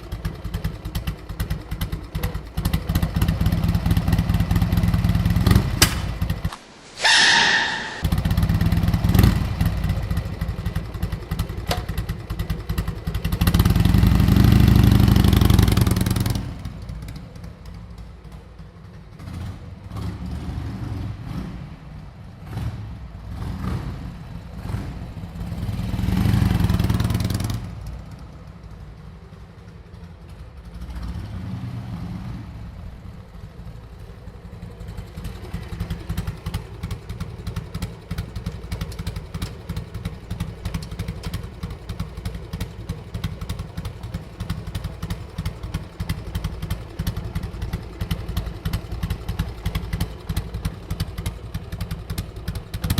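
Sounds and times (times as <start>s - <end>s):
motorcycle engine idling: 0.0s - 6.5s, 7.6s - 20.2s, 24.2s - 31.2s, 32.7s - 52.9s
motorcycle engine revving: 0.2s - 18.4s, 19.2s - 28.1s, 34.0s - 52.9s.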